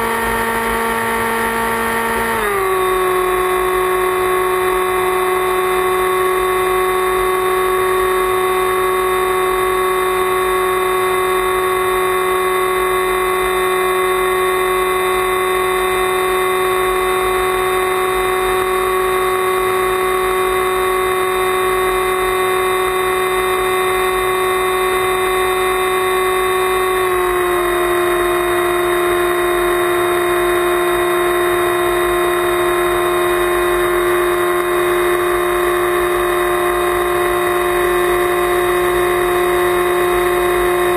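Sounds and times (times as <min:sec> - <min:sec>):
motor and propeller whine: 0:00.0 - 0:40.9.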